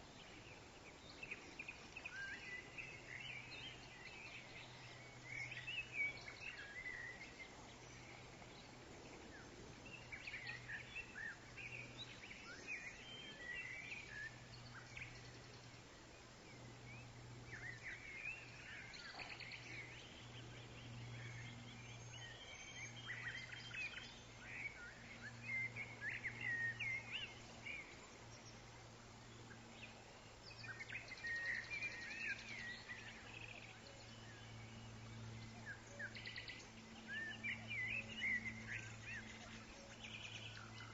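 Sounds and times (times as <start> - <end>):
faint background hum: 0.0 - 40.9
songbirds chirping and trilling: 0.0 - 40.9.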